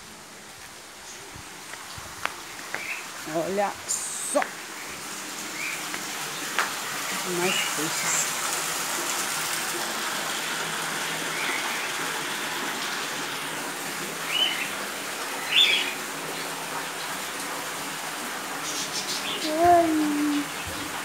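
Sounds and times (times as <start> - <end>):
running water hiss: 0.0 - 21.0.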